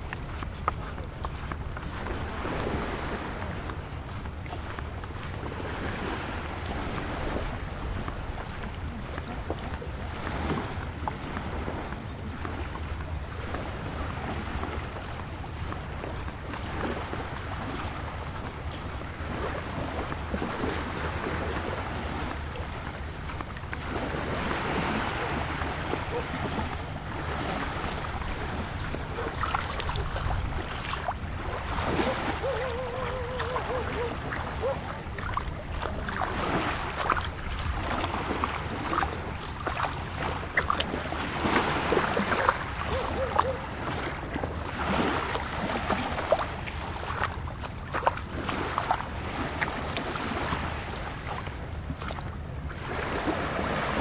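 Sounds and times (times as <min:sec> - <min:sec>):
low rumble of wind: 0:00.0 - 0:54.0
small waves washing onto sand: 0:00.0 - 0:54.0.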